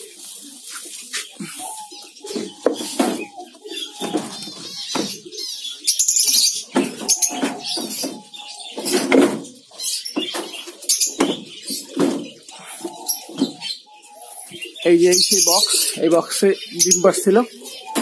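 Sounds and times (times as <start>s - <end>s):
birds chirping and calling: 0.0s - 18.0s.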